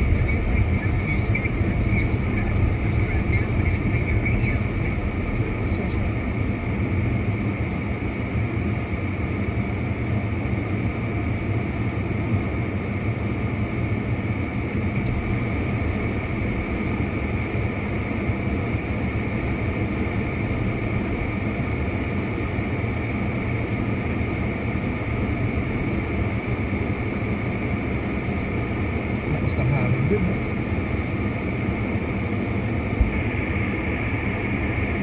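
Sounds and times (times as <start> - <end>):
faint constant hum: 0.0 - 35.0
moving vehicle drone: 0.0 - 35.0.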